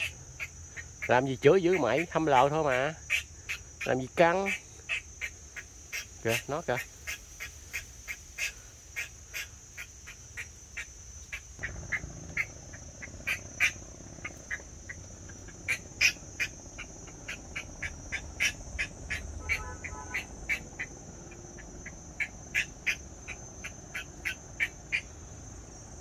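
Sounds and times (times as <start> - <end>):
short sharp animal calls: 0.0 - 25.0
high insect drone: 0.0 - 26.0.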